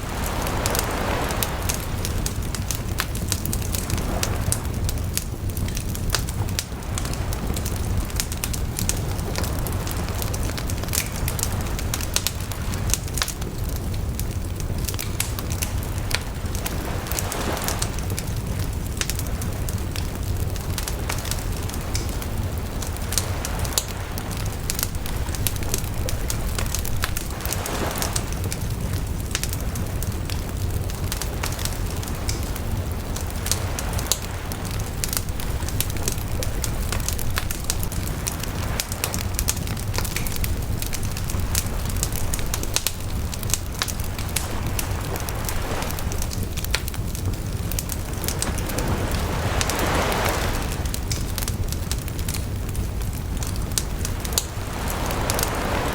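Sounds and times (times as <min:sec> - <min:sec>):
bonfire crackling and popping: 0:00.0 - 0:55.9
low fire rumble: 0:00.0 - 0:55.9.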